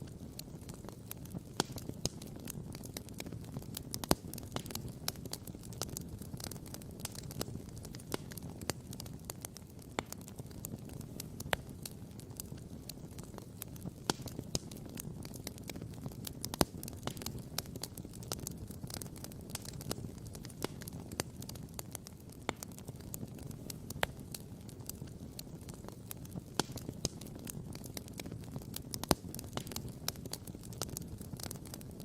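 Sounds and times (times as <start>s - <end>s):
campfire crackling and popping: 0.0s - 32.0s
low fire rumble: 0.0s - 32.0s.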